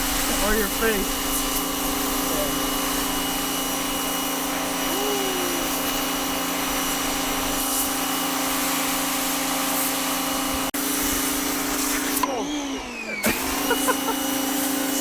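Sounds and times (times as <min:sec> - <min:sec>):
water jet hissing: 0:00.0 - 0:12.4, 0:13.2 - 0:15.0
pressure washer pump hum: 0:00.0 - 0:15.0.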